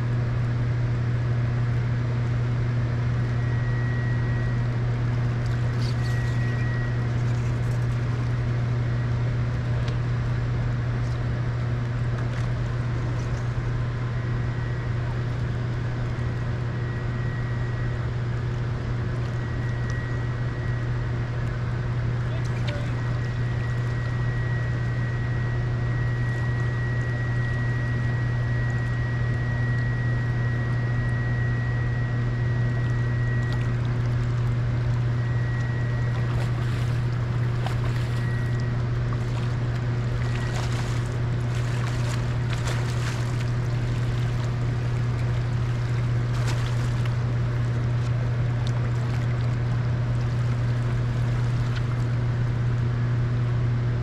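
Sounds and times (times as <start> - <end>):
boat motor humming: 0.0 - 54.0
thin high whine: 1.7 - 52.8.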